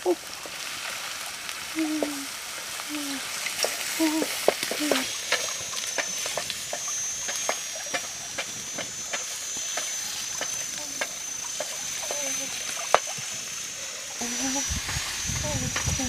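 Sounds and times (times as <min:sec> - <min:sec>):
fish frying in a pan: 0:00.0 - 0:16.0
steady high whine: 0:00.0 - 0:16.0.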